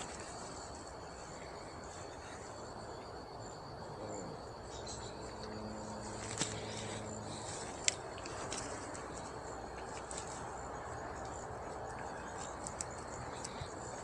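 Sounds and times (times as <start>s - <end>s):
faint low hum: 0.0s - 14.0s
insect trill: 0.0s - 14.0s.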